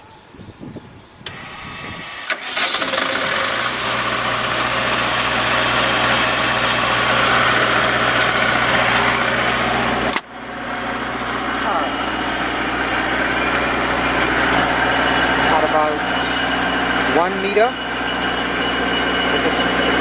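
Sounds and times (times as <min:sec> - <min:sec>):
electric starter clicks: 0:01.2 - 0:10.3, 0:11.2 - 0:20.0
diesel generator running: 0:01.2 - 0:20.0.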